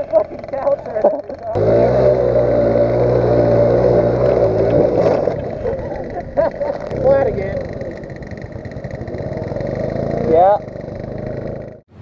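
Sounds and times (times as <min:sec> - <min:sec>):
scooter engine high-revving buzz: 0:00.0 - 0:11.9.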